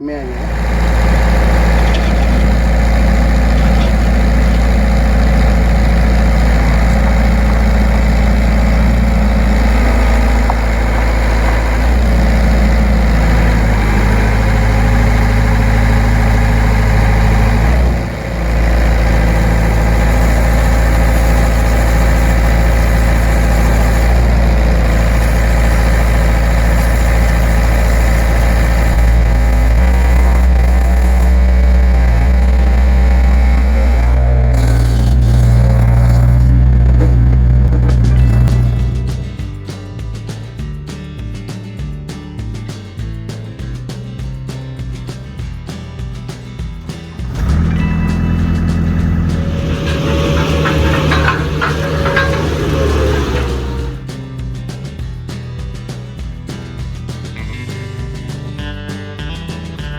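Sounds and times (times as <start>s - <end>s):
excavator diesel engine running: 0.0s - 40.4s, 46.8s - 55.1s.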